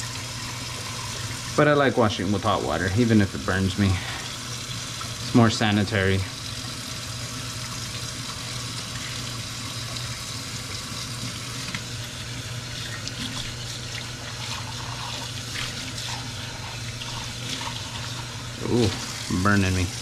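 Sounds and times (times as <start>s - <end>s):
faucet running into a sink: 0.0s - 20.0s.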